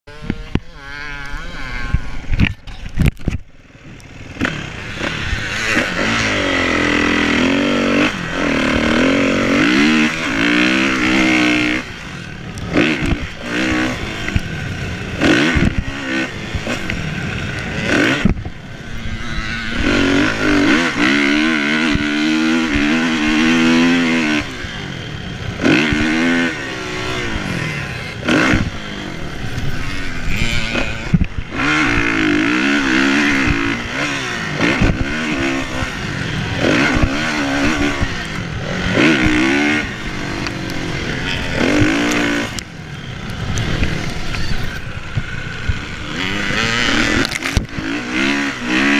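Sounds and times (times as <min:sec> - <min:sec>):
motocross engine revving: 0:00.1 - 0:02.6, 0:03.2 - 0:48.9.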